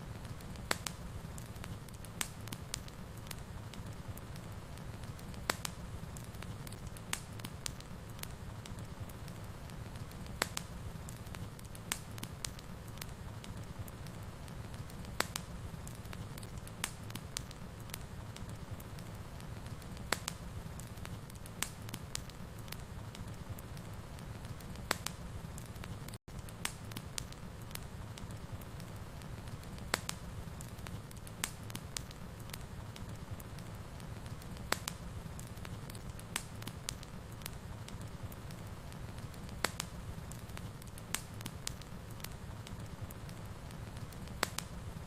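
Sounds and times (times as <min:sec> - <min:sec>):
fire crackling and popping: 0:00.0 - 0:45.0
fire rumbling: 0:00.0 - 0:45.0.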